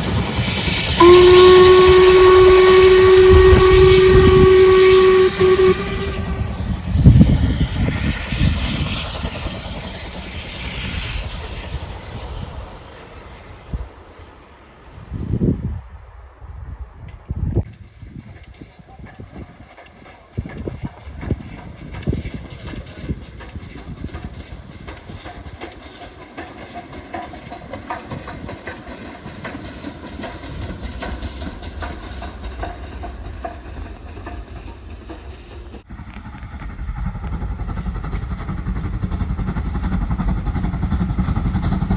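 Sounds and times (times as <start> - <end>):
steam train passing: 0.0 - 41.9.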